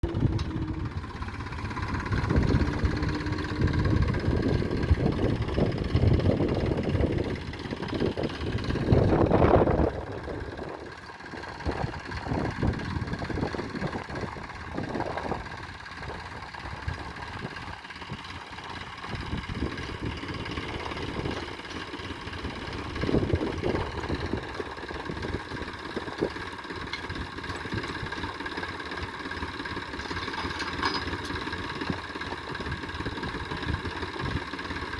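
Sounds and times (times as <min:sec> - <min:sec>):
heavy machinery engine running: 0:00.0 - 0:34.9.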